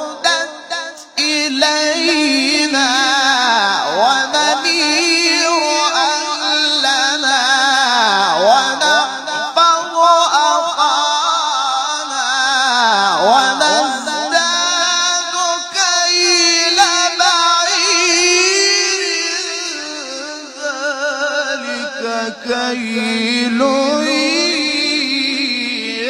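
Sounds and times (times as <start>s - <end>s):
person reciting melodically: 0.0s - 26.0s.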